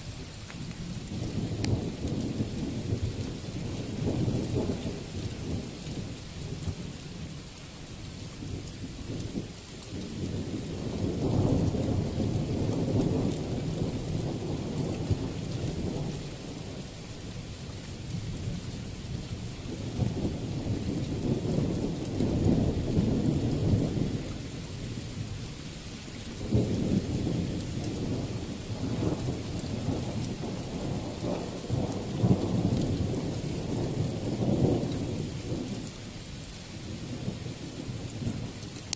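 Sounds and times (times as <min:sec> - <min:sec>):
rain hiss: 0:00.0 - 0:38.9.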